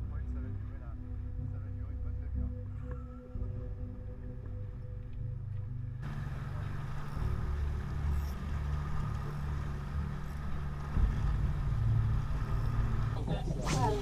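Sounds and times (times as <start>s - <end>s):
background music: 0.0s - 14.0s
boat motor rumbling: 0.0s - 14.0s
wind and water noise: 0.0s - 14.0s.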